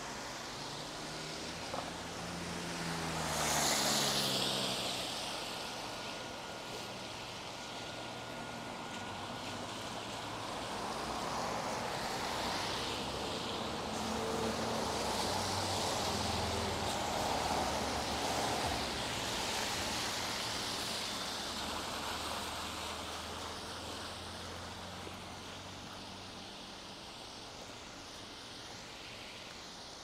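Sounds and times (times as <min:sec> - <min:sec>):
car driving past on wet road: 0:00.0 - 0:29.8
rain on a street: 0:00.0 - 0:30.0.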